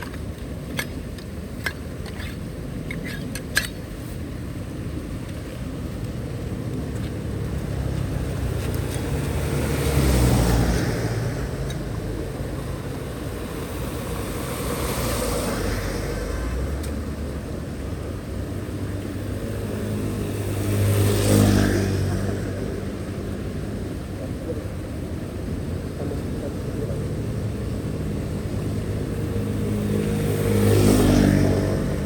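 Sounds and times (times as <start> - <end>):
background rush: 0.0 - 32.0
vehicles passing by: 0.0 - 32.0.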